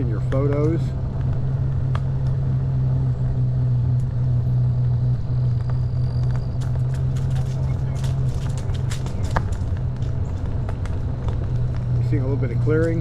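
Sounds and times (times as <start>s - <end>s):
e-bike hum and rumble: 0.0s - 13.0s.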